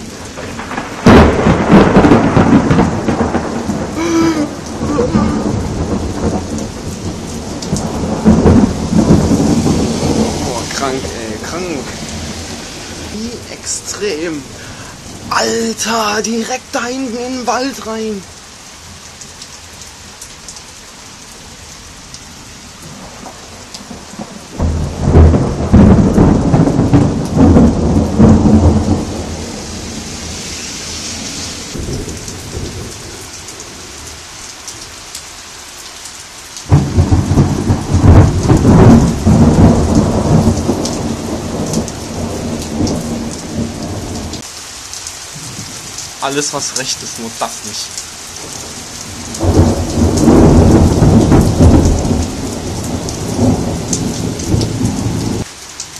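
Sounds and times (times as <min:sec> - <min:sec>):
thunder claps rumbling: 0:00.0 - 0:18.3, 0:22.8 - 0:34.2, 0:36.7 - 0:44.5, 0:45.3 - 0:47.8, 0:48.4 - 0:55.5
heavy rain falling: 0:00.0 - 0:55.9.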